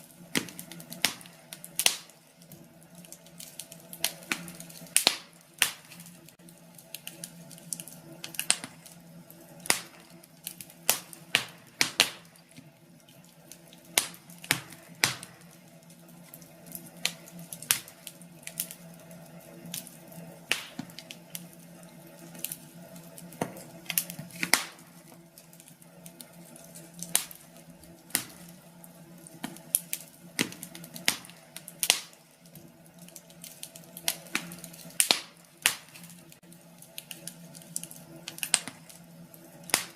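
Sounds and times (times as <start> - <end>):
low steady hum: 0.0 - 39.9
wood fire crackling: 0.0 - 39.9.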